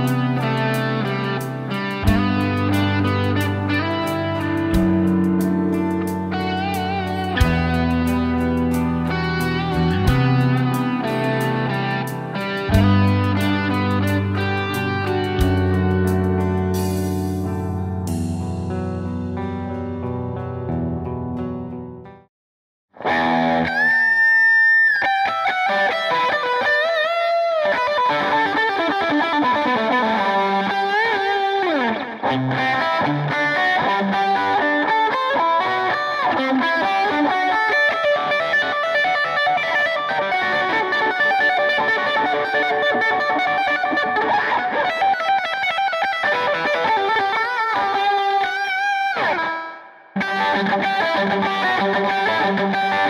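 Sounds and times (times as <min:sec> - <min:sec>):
distorted electric guitar: 0:00.0 - 0:22.2, 0:23.0 - 0:53.0.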